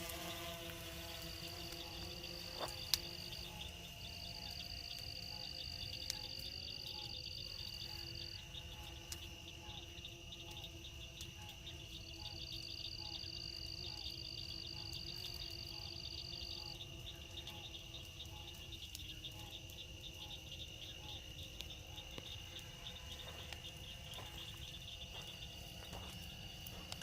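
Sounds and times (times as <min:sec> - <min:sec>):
crickets chirping: 0:00.0 - 0:27.0
high insect tone: 0:00.0 - 0:27.0.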